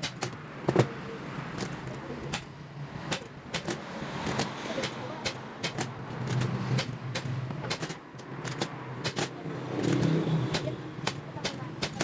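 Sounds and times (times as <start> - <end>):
sharp clicks: 1.5 - 12.0.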